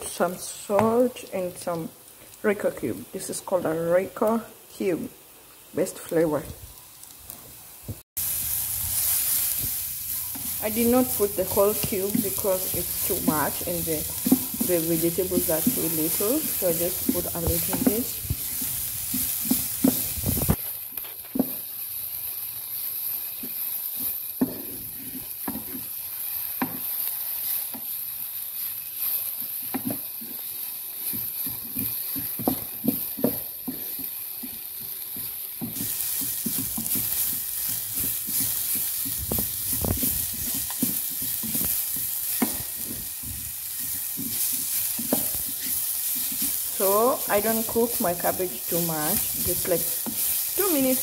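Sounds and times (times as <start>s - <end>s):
vegetables sizzling in oil: 0.0s - 51.0s
spatula scraping a pan: 8.9s - 51.0s.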